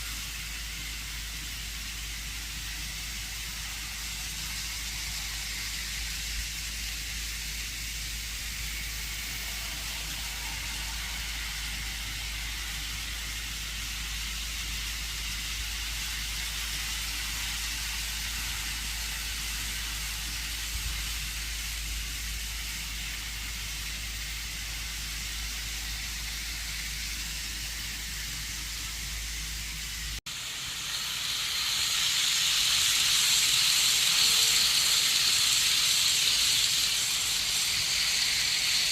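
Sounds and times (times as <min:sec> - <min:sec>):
model trains whirring on track: 0:00.0 - 0:38.9.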